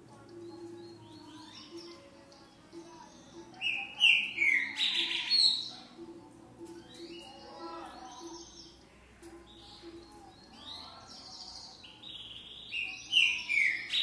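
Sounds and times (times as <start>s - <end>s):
bird singing: 0.0s - 6.0s, 6.6s - 14.0s.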